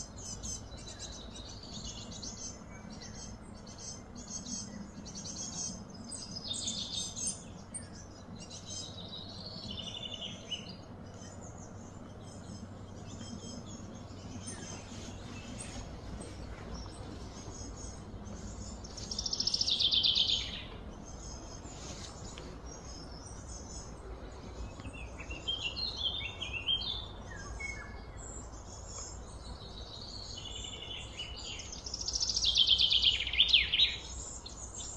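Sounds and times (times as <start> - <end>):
birds chirping and singing: 0.0 - 34.9
low background rumble: 0.0 - 34.9.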